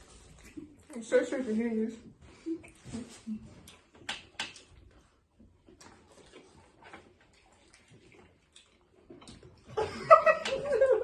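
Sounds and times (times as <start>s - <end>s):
people chewing food: 0.0s - 1.4s, 2.0s - 11.0s.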